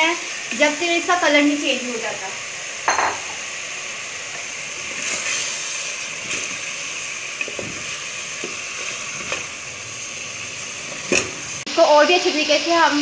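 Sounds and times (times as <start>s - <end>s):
meat sizzling in hot fat: 0.0s - 13.0s.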